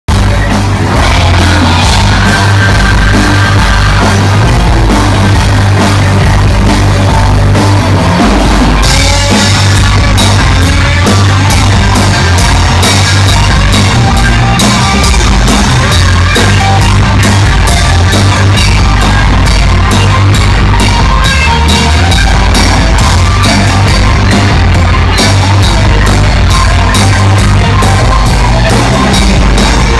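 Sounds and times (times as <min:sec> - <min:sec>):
bass guitar: 0:00.0 - 0:29.9
electric guitar: 0:00.1 - 0:29.9
pounding drum kit: 0:00.1 - 0:29.9.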